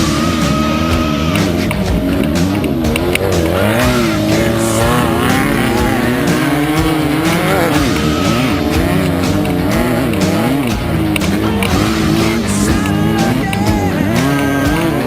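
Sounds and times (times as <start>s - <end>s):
race car engine revving: 0.0s - 15.0s
rock music: 0.0s - 15.0s.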